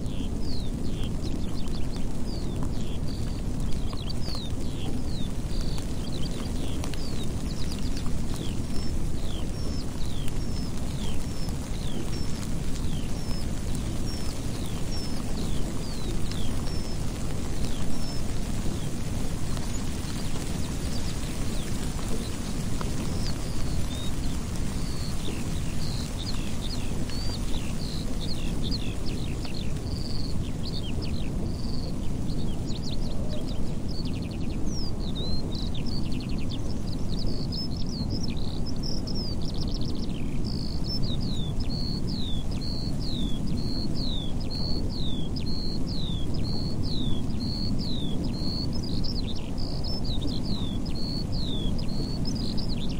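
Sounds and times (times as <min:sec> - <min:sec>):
skylark singing: 0:00.0 - 0:52.9.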